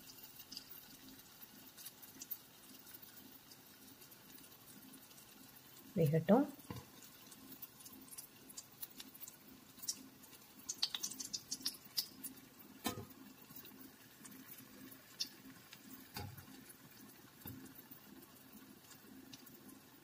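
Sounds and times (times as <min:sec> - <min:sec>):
batter sizzling in oil: 0:00.0 - 0:20.0.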